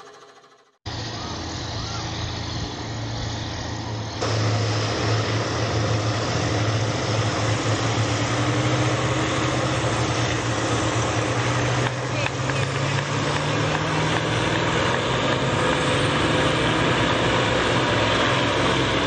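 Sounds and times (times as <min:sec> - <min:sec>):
airship engines droning: 0:00.0 - 0:19.0.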